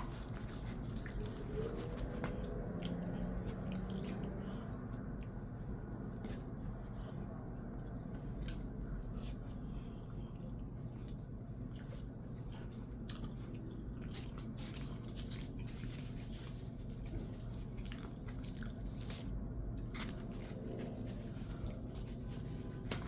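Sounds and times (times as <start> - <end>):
person chewing and biting: 0.0 - 6.6, 7.8 - 23.0
steady low hum: 0.0 - 23.0.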